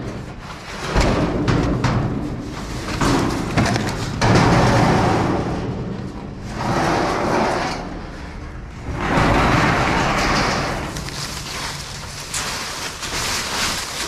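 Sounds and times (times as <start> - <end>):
garage door sections scraping: 0.0 - 14.0.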